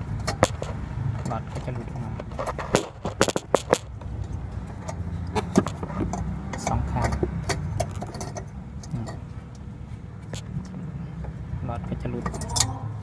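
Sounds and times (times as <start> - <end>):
light clicks and scrapes: 0.2 - 11.4.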